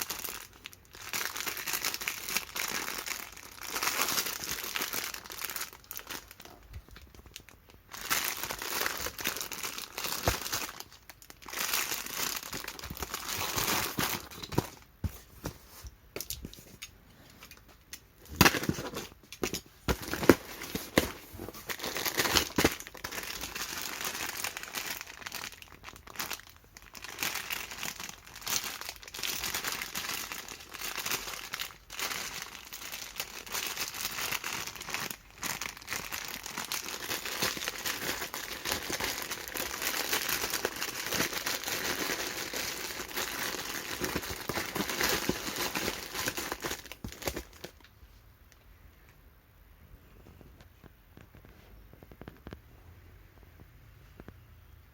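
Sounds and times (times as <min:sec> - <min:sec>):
plastic packaging crinkling: 0:00.0 - 0:47.9.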